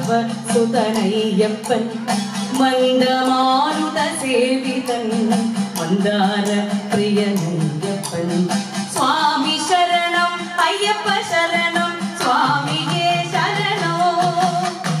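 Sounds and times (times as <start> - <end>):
woman singing devotional song: 0.0 - 14.8.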